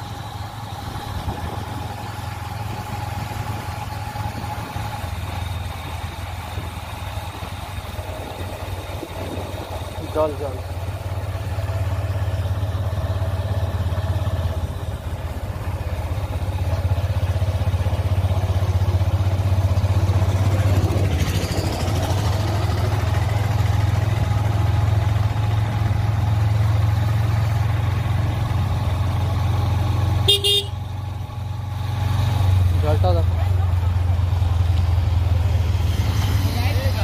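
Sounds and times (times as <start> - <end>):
motorcycle engine running: 0.0 - 37.0
road and wind noise: 0.0 - 37.0.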